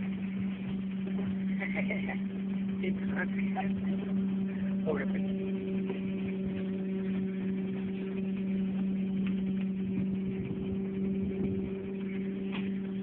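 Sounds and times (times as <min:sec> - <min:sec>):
low hum: 0:00.0 - 0:13.0
water: 0:00.0 - 0:13.0
wind: 0:00.0 - 0:13.0.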